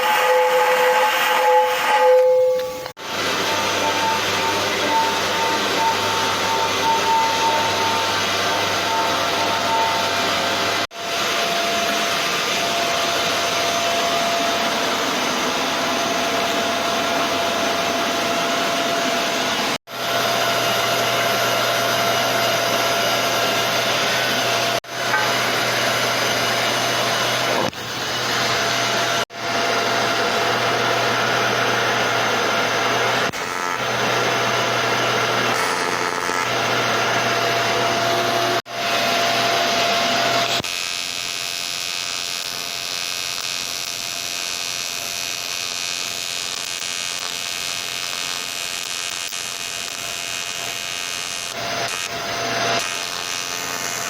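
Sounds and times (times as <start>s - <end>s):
welding arc buzzing hiss: 0.0s - 54.0s.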